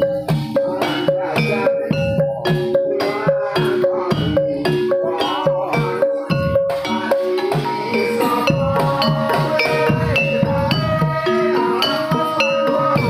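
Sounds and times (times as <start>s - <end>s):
steady low drum beat: 0.0s - 13.0s
struck metallophone runs: 0.0s - 13.0s.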